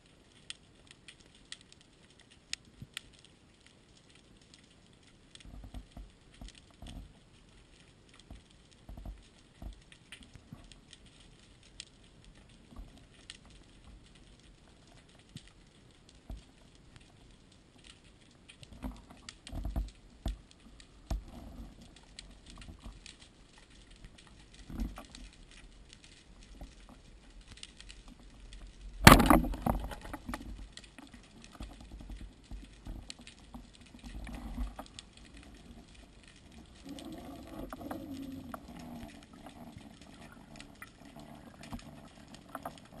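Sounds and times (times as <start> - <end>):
underwater crackle of clicks: 0.0 - 43.0.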